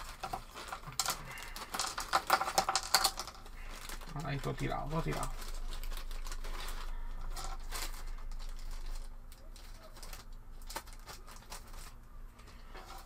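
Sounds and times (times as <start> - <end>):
wooden pieces clicking and rustling: 0.0 - 13.0.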